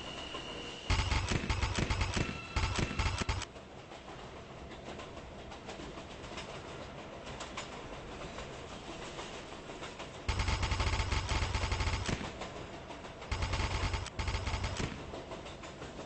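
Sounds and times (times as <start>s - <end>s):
subway train rumble and rattle: 0.0s - 16.0s.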